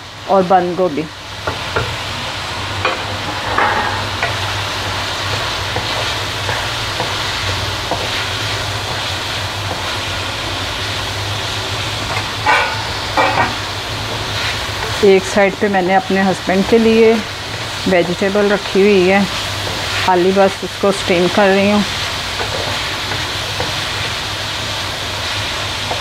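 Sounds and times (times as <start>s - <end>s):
vegetables sizzling in a pan: 0.0s - 26.0s.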